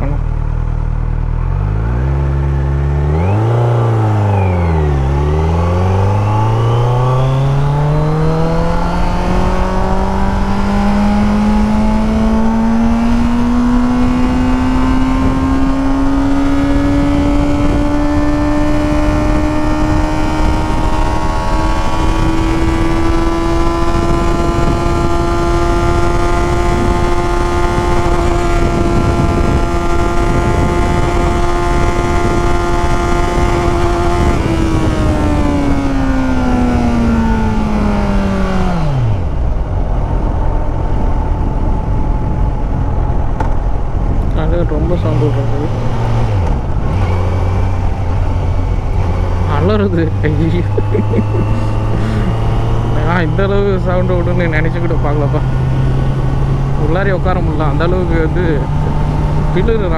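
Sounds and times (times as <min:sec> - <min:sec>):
motorcycle engine accelerating: 0:00.0 - 0:59.9
wind rush: 0:03.2 - 0:59.9.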